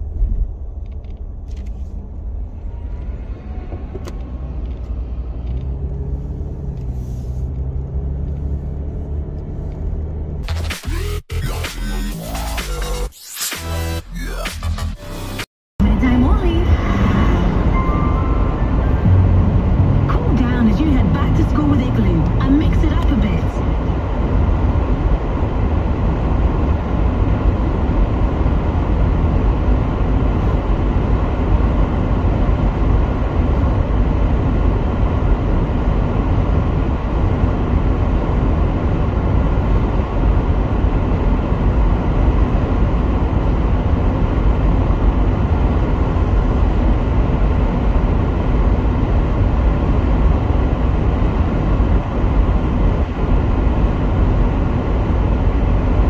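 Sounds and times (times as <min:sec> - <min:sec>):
car driving rumble: 0:00.0 - 0:10.4, 0:15.8 - 0:56.0.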